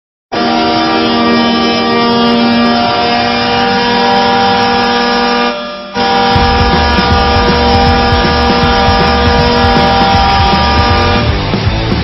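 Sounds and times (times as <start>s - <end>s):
goal horn: 0.3s - 11.4s.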